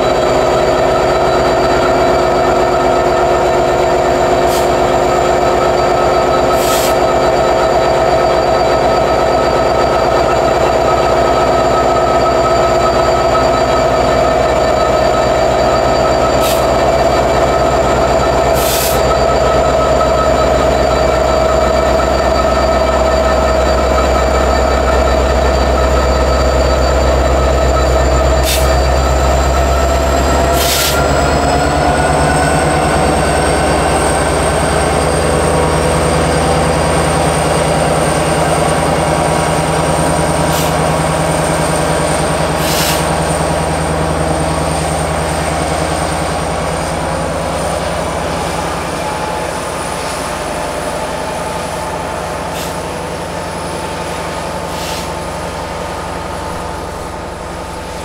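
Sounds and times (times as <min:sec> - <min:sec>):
low train rumble: 0:00.0 - 0:58.0
train wheels squealing: 0:00.0 - 0:58.0.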